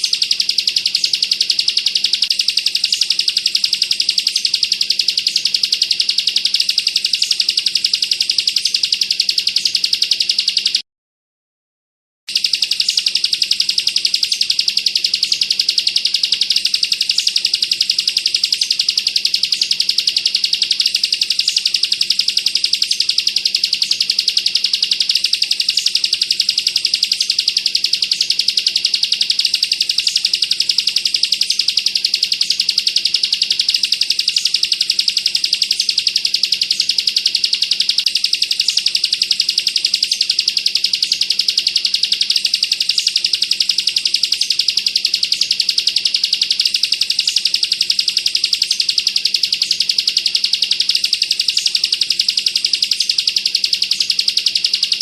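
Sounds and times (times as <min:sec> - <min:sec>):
bird singing a fast trill: 0:00.0 - 0:10.8, 0:12.3 - 0:55.0.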